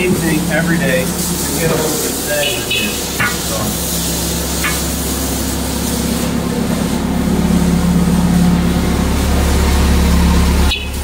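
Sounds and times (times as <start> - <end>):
factory machinery humming: 0.0 - 11.0.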